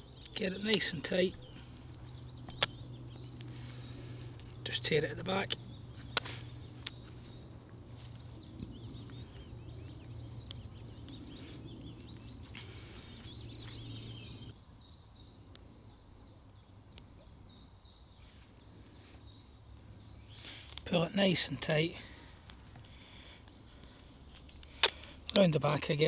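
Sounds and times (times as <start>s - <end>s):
low background hum: 0.0s - 25.3s
birds chirping: 0.0s - 26.0s.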